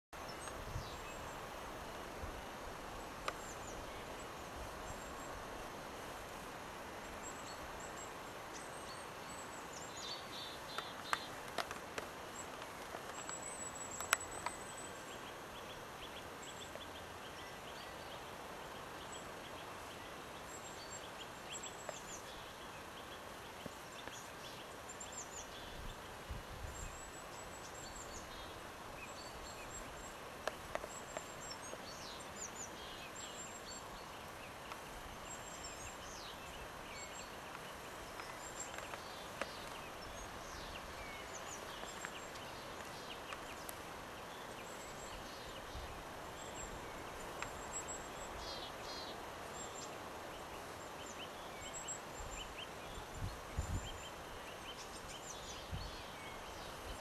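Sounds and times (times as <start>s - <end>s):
faint forest hiss: 0.2s - 57.0s
small birds chirping: 0.2s - 57.0s.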